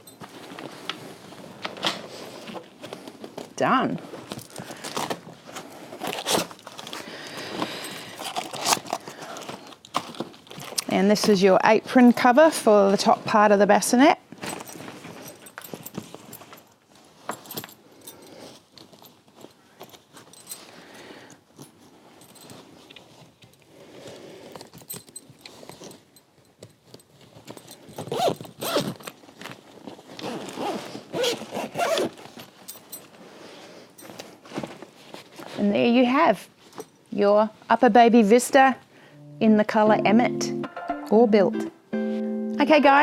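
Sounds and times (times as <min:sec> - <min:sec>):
fabric rustling: 0:00.0 - 0:38.7.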